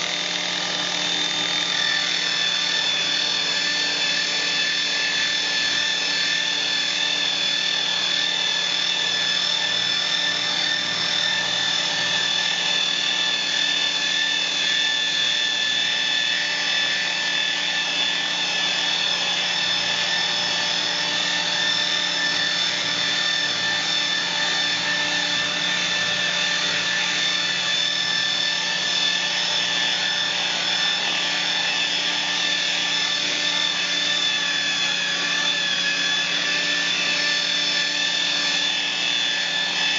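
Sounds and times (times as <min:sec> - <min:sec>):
electric polisher whining: 0:00.0 - 0:39.9.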